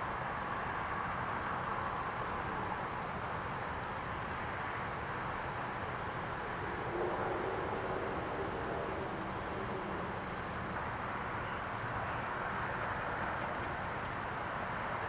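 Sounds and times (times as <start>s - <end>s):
traffic noise: 0.0s - 15.0s
faint engine hum: 0.1s - 15.0s.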